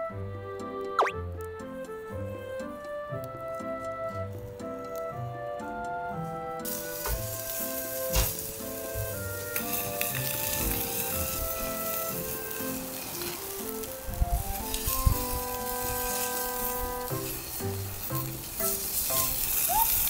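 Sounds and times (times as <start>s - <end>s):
background music: 0.0s - 19.8s
skewers sizzling on a grill: 1.5s - 20.0s.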